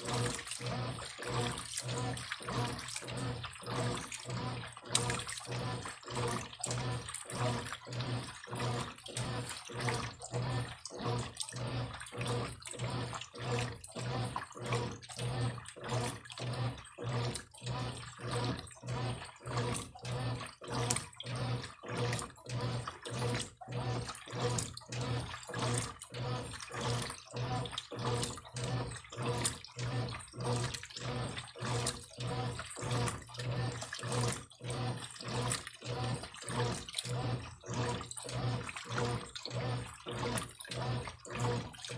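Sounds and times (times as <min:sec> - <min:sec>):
washing machine agitating: 0:00.0 - 0:41.9.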